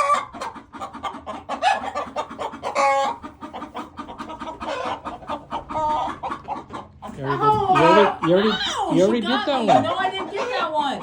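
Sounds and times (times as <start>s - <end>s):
hens clucking and squawking: 0.0s - 11.0s.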